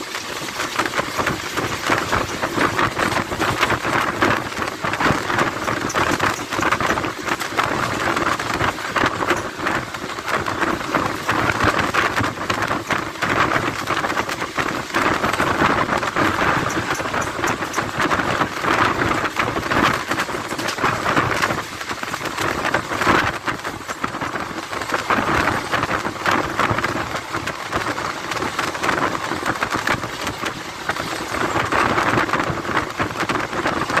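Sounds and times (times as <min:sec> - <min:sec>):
train wheels rushing on rails: 0:00.0 - 0:34.0
wind buffeting microphone: 0:00.0 - 0:34.0.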